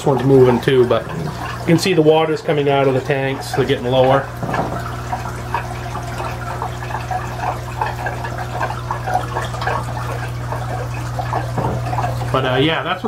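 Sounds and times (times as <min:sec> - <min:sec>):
low pump hum: 0:00.0 - 0:13.0
water pouring and gurgling: 0:00.0 - 0:13.0.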